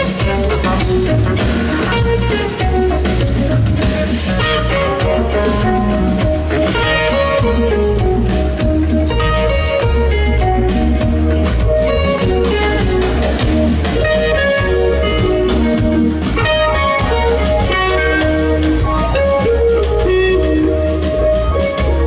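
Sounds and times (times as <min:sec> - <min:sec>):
bass guitar: 0:00.0 - 0:22.0
drums: 0:00.0 - 0:22.0
electric guitar lines: 0:00.0 - 0:22.0.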